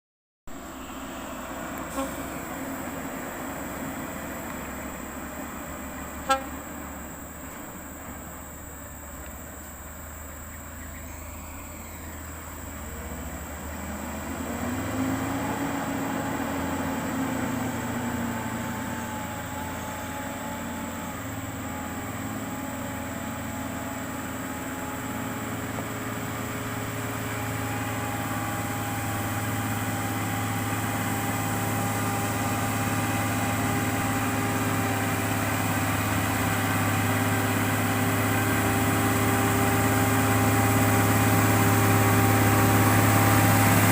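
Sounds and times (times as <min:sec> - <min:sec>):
truck diesel engine labouring: 0:00.5 - 0:43.9.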